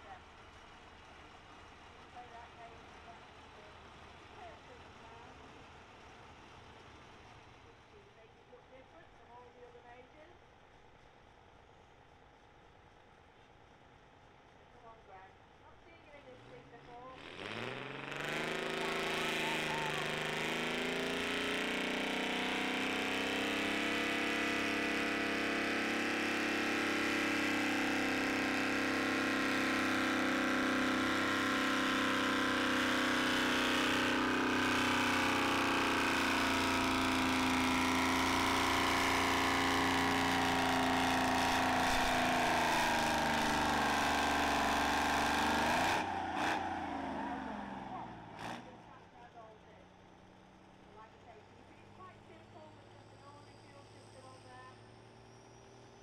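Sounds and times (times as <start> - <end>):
tractor engine at high revs: 0.0 - 7.7, 16.1 - 56.0.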